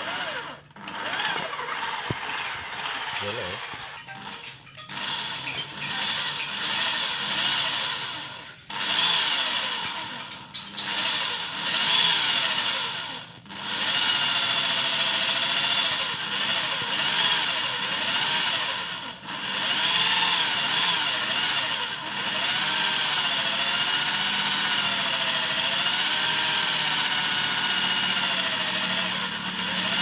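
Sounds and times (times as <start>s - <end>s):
electric drill boring into metal: 0.0s - 30.0s.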